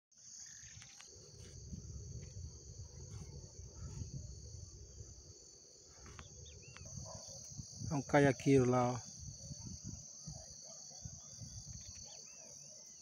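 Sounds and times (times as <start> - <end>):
crickets chirping: 0.2 - 13.0.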